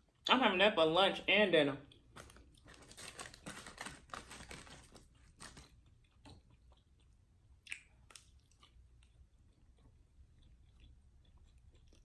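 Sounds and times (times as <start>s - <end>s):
chewing crispy fried food: 1.9s - 12.0s.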